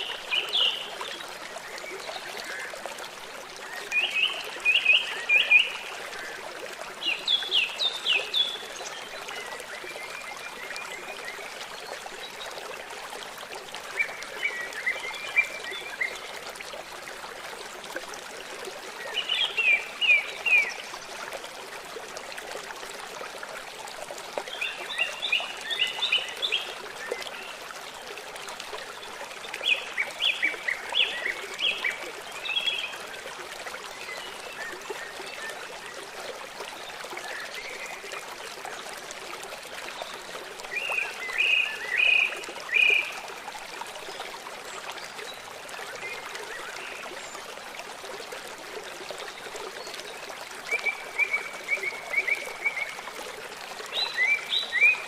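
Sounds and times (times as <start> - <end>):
trickling stream: 0.0 - 55.0.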